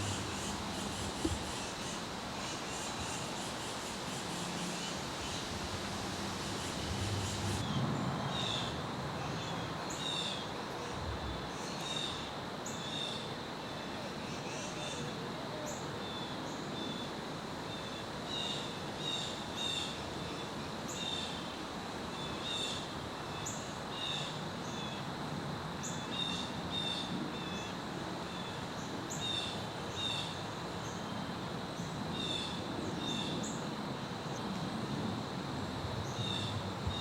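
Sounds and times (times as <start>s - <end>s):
faint high insect-like tone: 0.0s - 37.0s
wind in trees: 0.0s - 37.0s.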